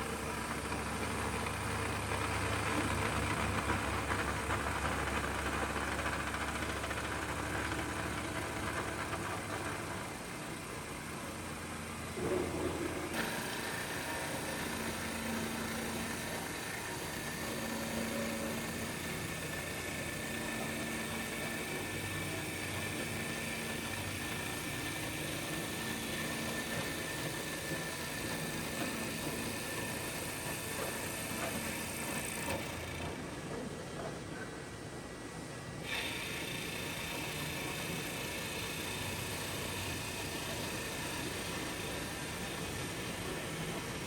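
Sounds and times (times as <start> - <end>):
wood lathe motors humming: 0.0 - 34.0, 35.7 - 44.0.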